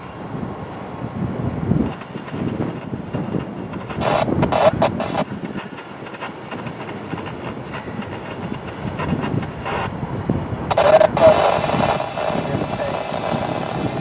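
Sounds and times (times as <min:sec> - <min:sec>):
train rumbling along tracks: 0:00.0 - 0:14.0
wind buffeting microphone: 0:00.0 - 0:14.0
crackly burst: 0:01.8 - 0:14.0.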